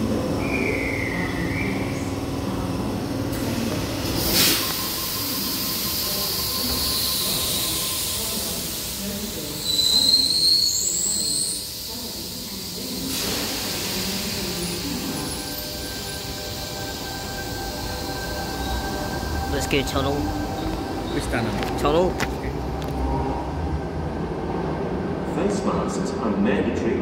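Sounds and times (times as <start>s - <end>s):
electric train running: 0.0s - 23.2s.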